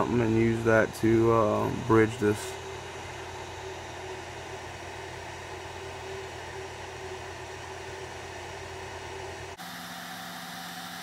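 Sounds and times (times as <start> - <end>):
hot air station blowing: 0.0 - 11.0.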